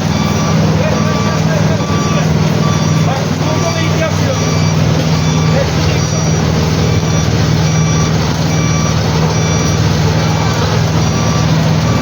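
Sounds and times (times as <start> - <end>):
machine engine running: 0.0 - 12.0
reversing alarm beeping: 0.0 - 12.0.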